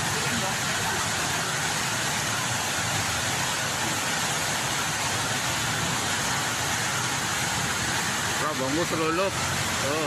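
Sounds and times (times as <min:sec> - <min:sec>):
heavy rain: 0:00.0 - 0:10.0
running floodwater: 0:00.0 - 0:10.0.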